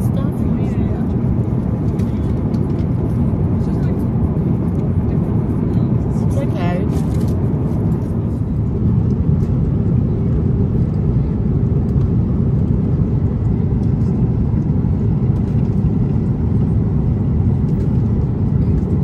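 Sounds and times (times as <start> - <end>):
jet airliner cabin rumble: 0.0 - 19.0.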